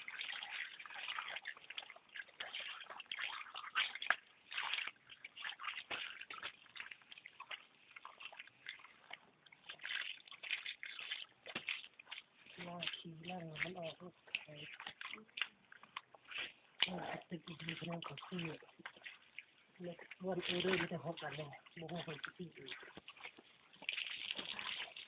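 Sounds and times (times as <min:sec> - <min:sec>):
water sloshing and splashing: 0:00.0 - 0:25.0.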